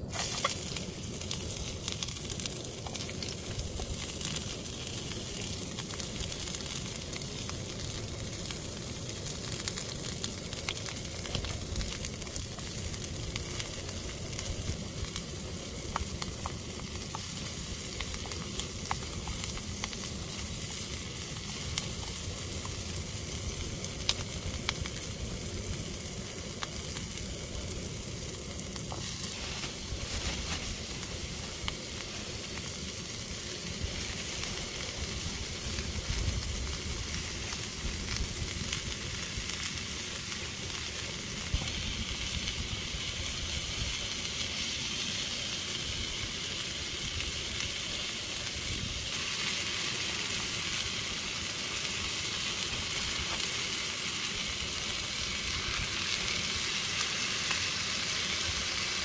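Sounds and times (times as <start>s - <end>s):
onion sizzling in a pan: 0.0s - 59.0s.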